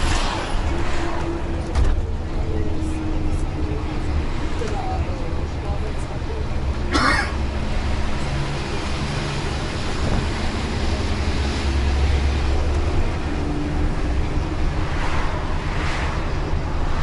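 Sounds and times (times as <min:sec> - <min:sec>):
bus engine rumble: 0:00.0 - 0:17.0
road noise hiss: 0:00.0 - 0:17.0.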